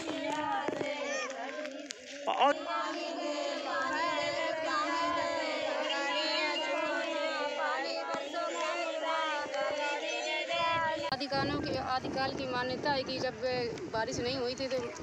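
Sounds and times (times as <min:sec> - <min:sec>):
women singing devotional song: 0:00.0 - 0:13.7.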